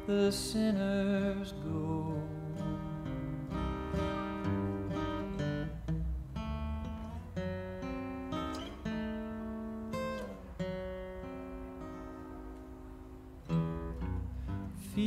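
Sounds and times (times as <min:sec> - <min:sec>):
acoustic guitar playing a waltz: 0:00.0 - 0:15.0.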